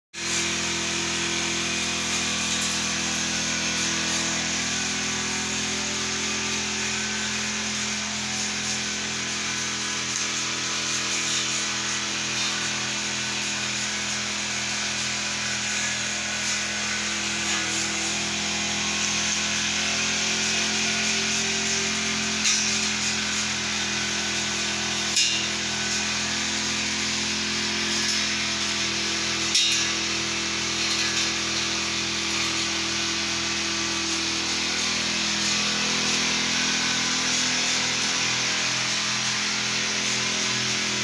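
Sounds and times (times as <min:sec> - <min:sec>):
brush cutter engine running: 0:00.2 - 0:41.0.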